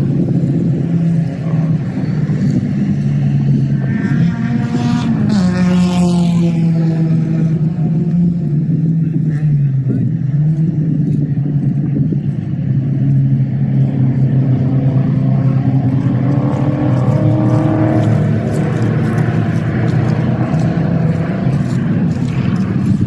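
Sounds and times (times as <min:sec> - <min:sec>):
racing car engines droning: 0:00.0 - 0:23.0.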